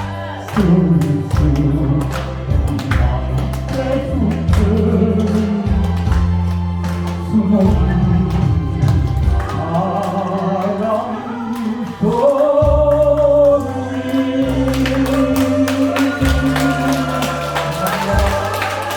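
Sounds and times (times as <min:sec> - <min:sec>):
backing music: 0:00.0 - 0:18.9
person singing: 0:00.0 - 0:18.9.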